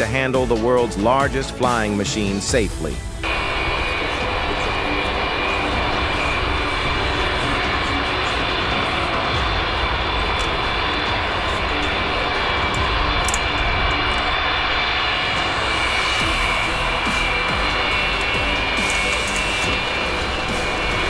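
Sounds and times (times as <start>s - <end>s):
high turbine whine: 0.0s - 21.0s
jet engines rushing: 0.0s - 21.0s.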